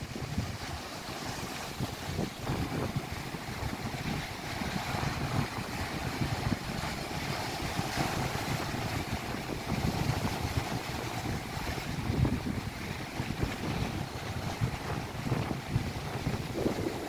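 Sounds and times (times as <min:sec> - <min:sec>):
rough lake waves: 0:00.0 - 0:17.0
wind buffeting microphone: 0:00.0 - 0:17.0.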